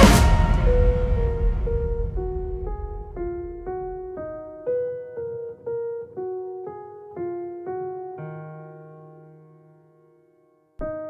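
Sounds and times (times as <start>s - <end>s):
held piano chord: 0.0s - 11.0s
piano single notes: 0.0s - 11.0s.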